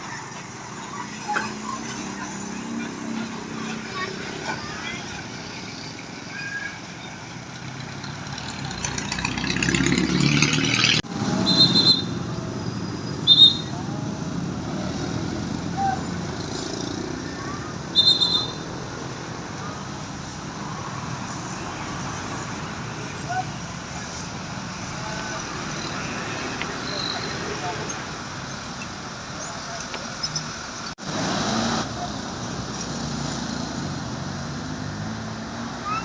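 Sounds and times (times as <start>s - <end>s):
bus passing close: 0.0s - 36.0s
road traffic noise: 0.0s - 36.0s.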